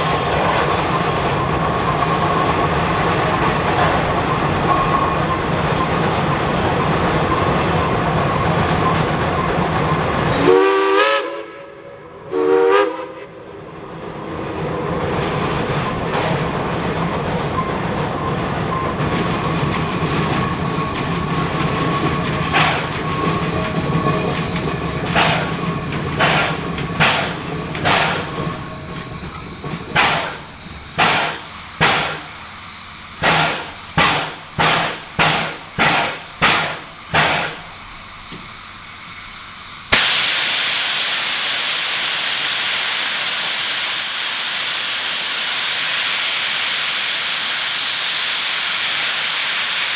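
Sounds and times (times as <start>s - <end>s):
loud hiss of steam: 0.0s - 13.2s, 13.9s - 49.9s
locomotive rumble: 0.0s - 49.9s
steam locomotive exhaust chuffs: 0.0s - 49.9s.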